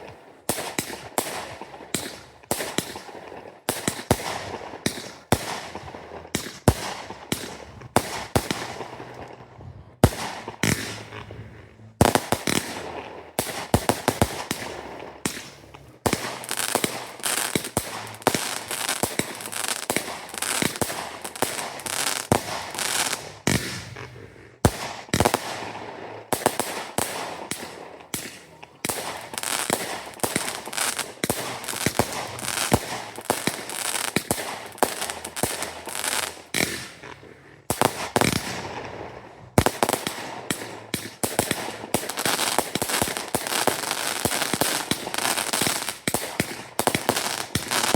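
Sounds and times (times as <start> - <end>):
fireworks bangs: 0.5 - 47.9.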